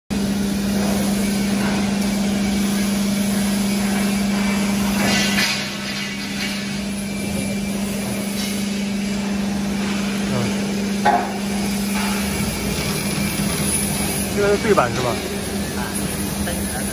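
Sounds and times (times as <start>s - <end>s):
hydraulic pump humming: 0.1s - 16.9s
workshop machinery noise: 0.1s - 16.9s.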